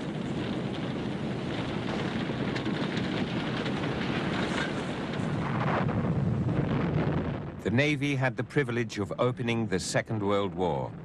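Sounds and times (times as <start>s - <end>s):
faint fire crackles: 0.0s - 11.0s
large fire roaring: 0.0s - 11.0s.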